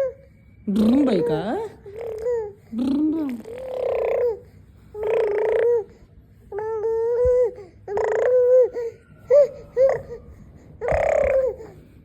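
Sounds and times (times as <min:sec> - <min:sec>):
toddler making engine noises: 0:00.8 - 0:12.0.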